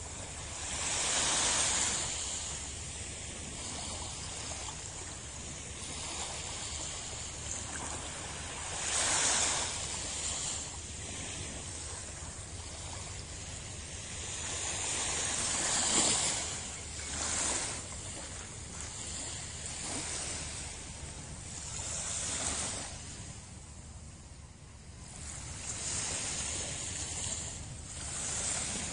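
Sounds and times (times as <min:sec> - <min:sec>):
small waves lapping on sand: 0:00.0 - 0:28.9.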